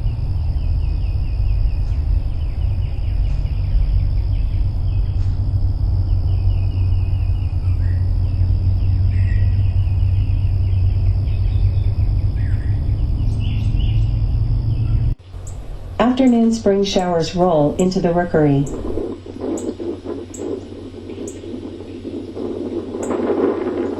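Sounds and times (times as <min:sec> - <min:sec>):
high insect-like whine: 0:00.0 - 0:23.9
rainstorm: 0:00.0 - 0:23.9
wind rumbling on microphone: 0:00.0 - 0:23.9.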